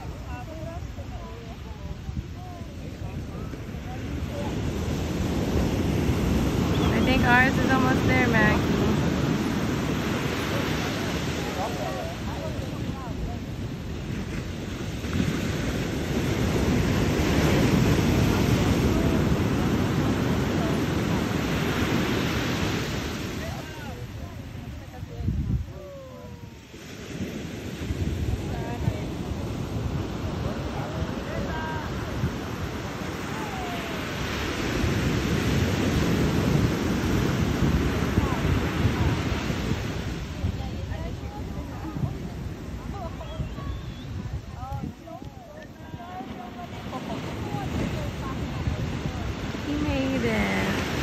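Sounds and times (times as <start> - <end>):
ocean surf breaking: 0.0 - 51.0
wind on microphone: 0.0 - 51.0.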